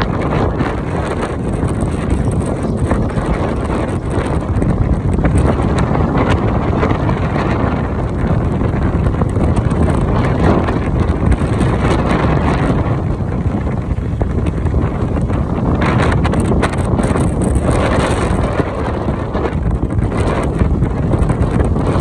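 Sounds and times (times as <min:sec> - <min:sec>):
vehicle and road noise: 0:00.0 - 0:22.0
wind buffeting microphone: 0:00.0 - 0:22.0.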